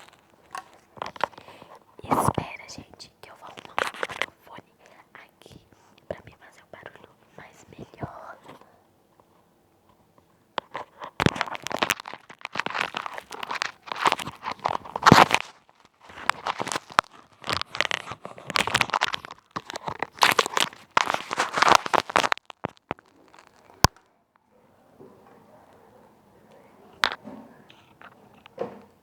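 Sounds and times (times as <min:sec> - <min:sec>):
crinkling against a microphone: 0:00.0 - 0:29.0.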